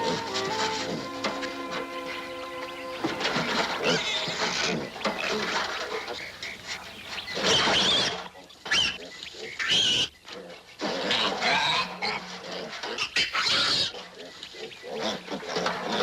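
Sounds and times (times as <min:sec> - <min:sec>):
piglets squealing: 0:00.0 - 0:10.2, 0:10.8 - 0:16.0.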